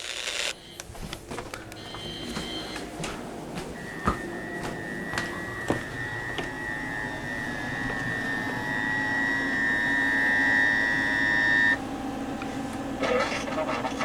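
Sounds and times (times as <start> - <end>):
harsh dual-tone alarm: 0.0 - 11.8.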